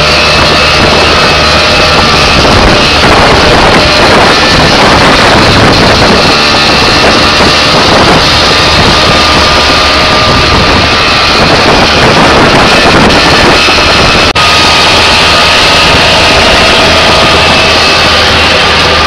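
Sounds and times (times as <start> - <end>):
small engine running: 0.0 - 19.0
wind buffeting the microphone: 0.0 - 19.0.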